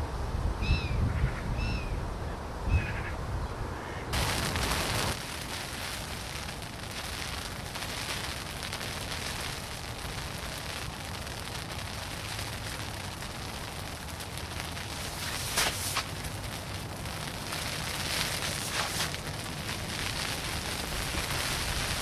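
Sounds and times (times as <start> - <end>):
steady rushing outdoor noise: 2.0 - 22.0.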